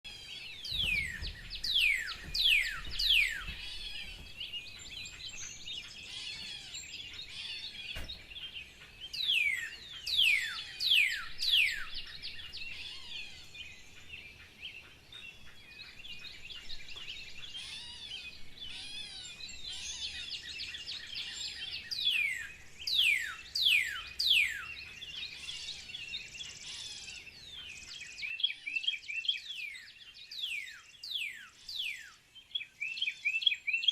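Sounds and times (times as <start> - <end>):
birds chattering and twittering: 0.0 - 33.9.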